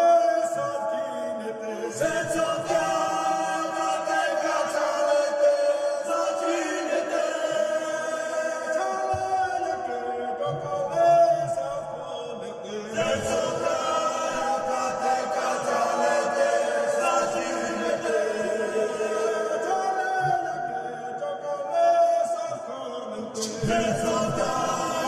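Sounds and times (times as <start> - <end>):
choir chanting held notes: 1.7 - 21.1, 23.2 - 25.0.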